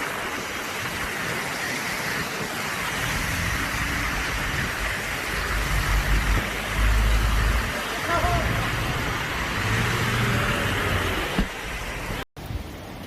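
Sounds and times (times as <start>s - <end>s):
traffic hiss on wet road: 0.0s - 13.0s.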